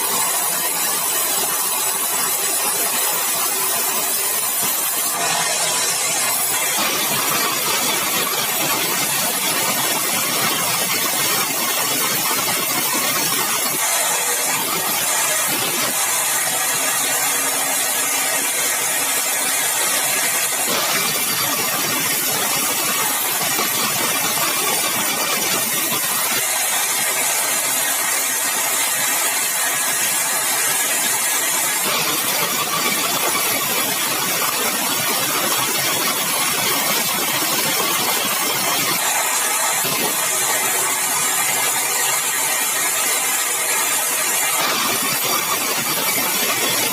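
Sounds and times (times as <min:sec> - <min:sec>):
sawmill engine and saw: 0:00.0 - 0:46.9.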